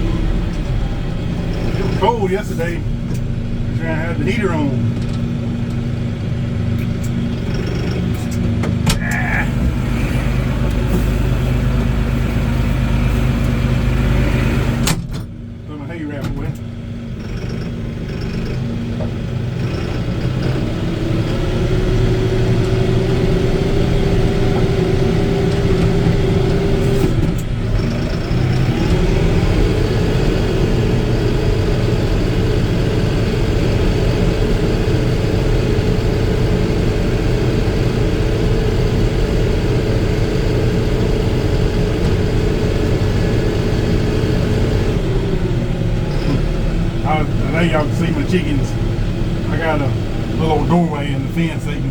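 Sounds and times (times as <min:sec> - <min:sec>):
tractor engine from inside cab: 0:00.0 - 0:51.9.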